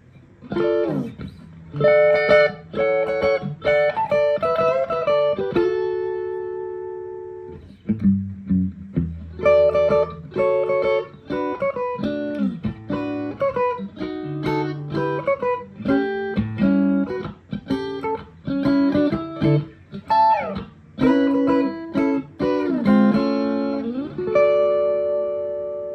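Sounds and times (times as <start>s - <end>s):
clean electric guitar: 0.0s - 25.9s.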